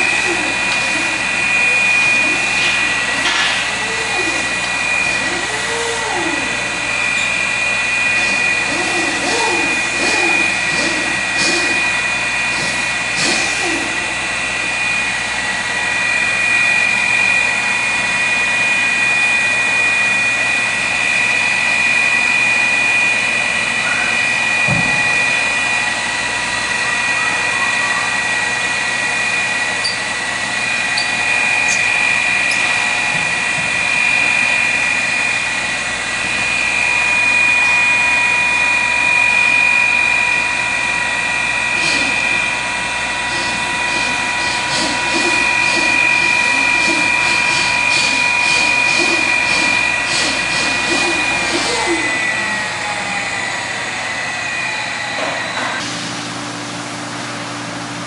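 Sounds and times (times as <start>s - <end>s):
surface grinder whine: 0.0s - 57.1s.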